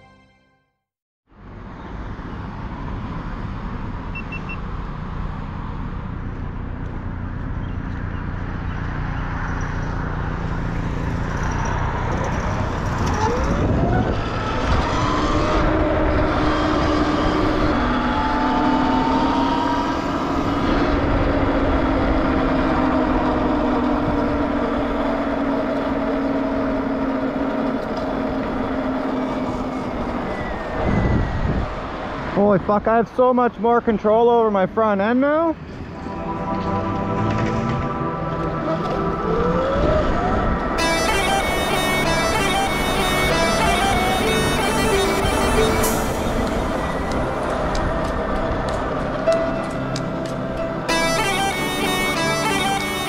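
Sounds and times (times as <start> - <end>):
wind and tyre noise: 1.3 - 53.0.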